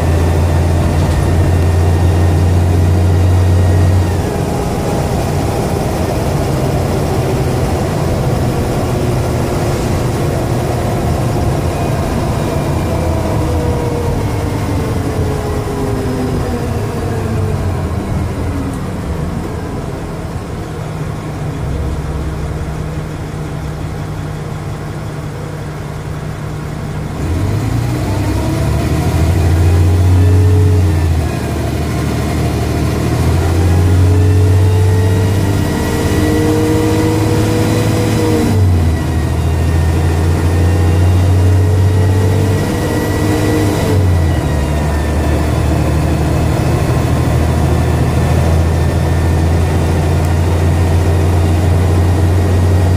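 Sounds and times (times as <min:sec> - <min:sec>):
bus engine revving: 0:00.0 - 0:52.9
high turbo whine: 0:00.0 - 0:52.9.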